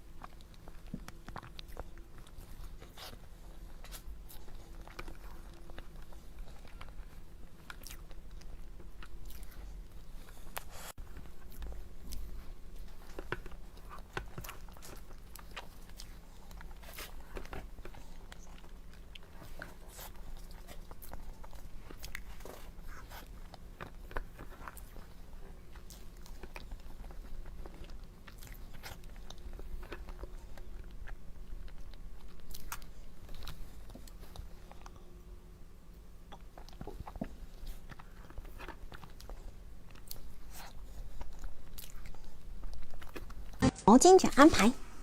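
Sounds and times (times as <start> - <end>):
person chewing crunchy dessert: 0.0 - 35.3, 36.0 - 43.6.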